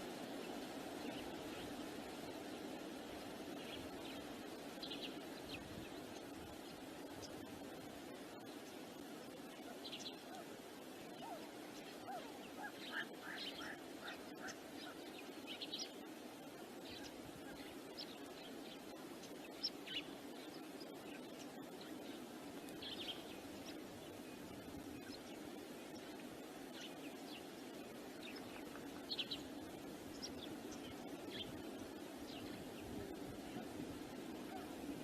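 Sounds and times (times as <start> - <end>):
low rush of wind: 0.0 - 35.0
small birds chirping: 0.2 - 35.0.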